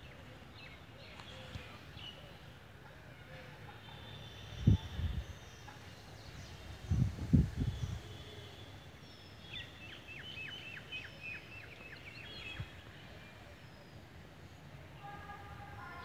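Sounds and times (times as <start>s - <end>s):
faint outdoor hiss: 0.0s - 16.0s
songbird singing: 0.0s - 16.0s.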